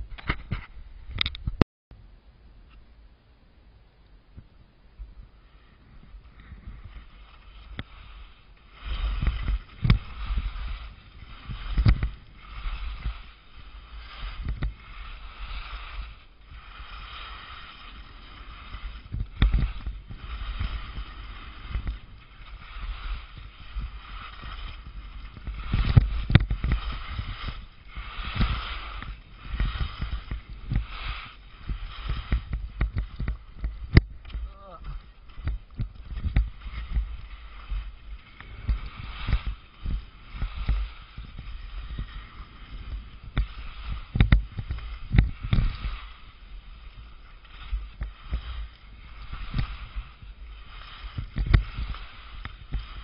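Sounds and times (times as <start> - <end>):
skis swishing through snow: 5.2 - 53.0.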